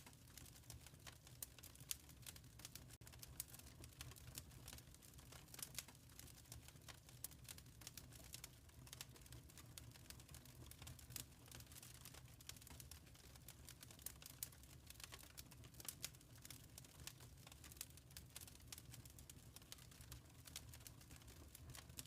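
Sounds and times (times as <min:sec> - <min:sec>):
faint wood fire crackling: 0:00.0 - 0:22.0.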